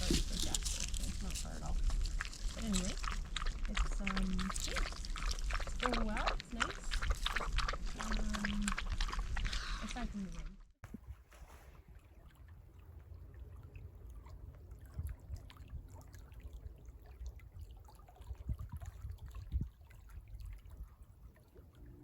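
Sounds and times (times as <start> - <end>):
water trickling and splashing: 0.0 - 10.8, 11.4 - 22.0
low steady rumble: 0.0 - 17.8.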